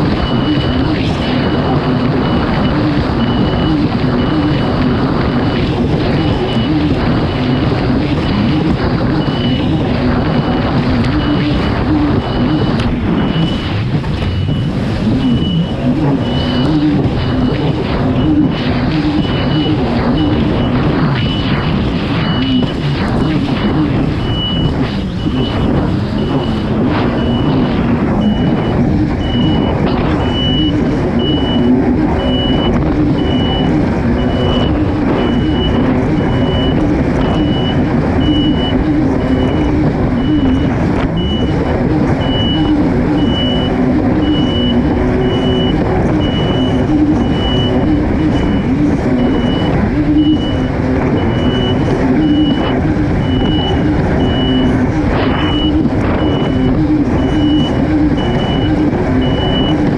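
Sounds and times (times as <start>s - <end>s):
high electronic beep: 0.0s - 59.9s
jet ski engine running: 0.0s - 59.9s.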